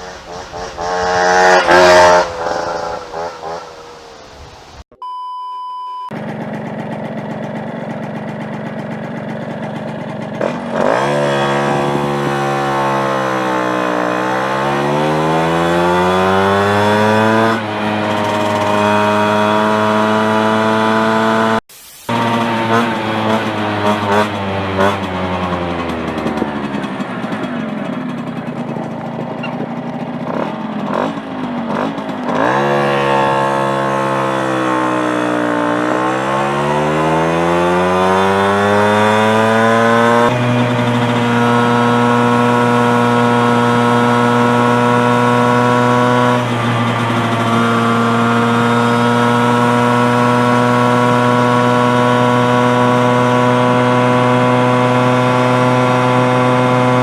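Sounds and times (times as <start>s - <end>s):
moped engine revving: 0.0s - 4.9s, 6.2s - 57.0s.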